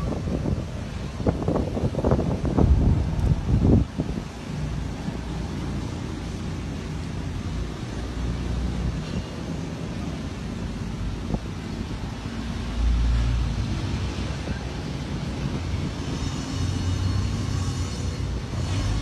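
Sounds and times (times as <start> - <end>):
car engines rumbling: 0.0 - 19.0.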